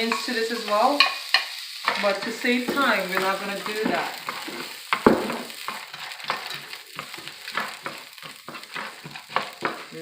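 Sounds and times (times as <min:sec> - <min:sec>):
stirring in a pan: 0:00.0 - 0:10.0
vegetables sizzling in a frying pan: 0:00.0 - 0:10.0.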